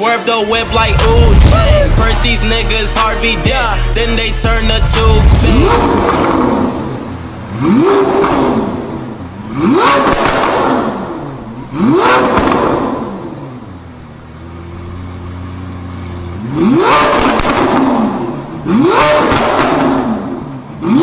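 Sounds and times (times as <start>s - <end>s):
car engine revving and idling: 0.0s - 21.0s.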